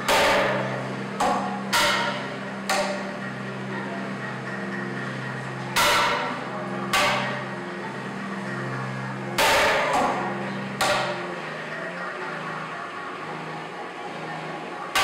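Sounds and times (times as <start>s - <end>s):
low electronic drone: 0.0s - 15.0s.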